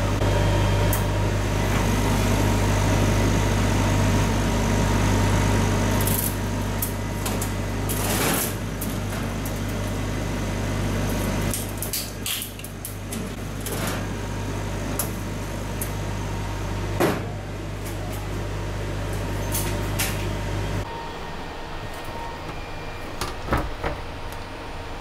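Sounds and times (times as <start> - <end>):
laser cutter fans humming: 0.0 - 25.0.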